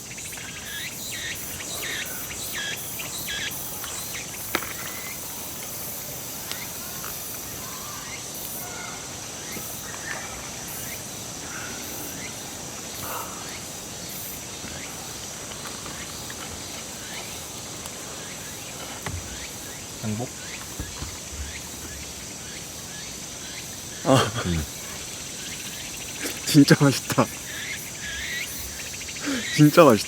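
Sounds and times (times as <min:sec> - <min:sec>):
faint chirps: 0:00.0 - 0:30.0
insects trilling: 0:00.0 - 0:30.0.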